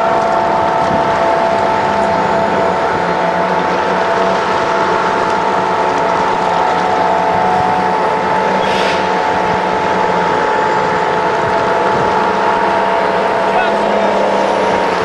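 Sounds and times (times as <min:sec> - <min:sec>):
armoured vehicles driving past: 0:00.0 - 0:15.0
constant whine: 0:00.0 - 0:15.0.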